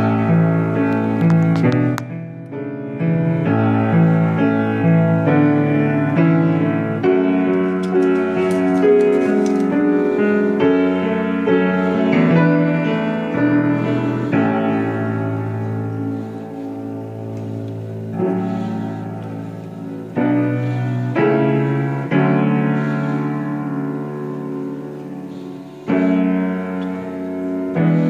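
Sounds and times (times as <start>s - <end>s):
piano piece: 0.0s - 28.0s
sheet music rustling: 0.0s - 28.0s.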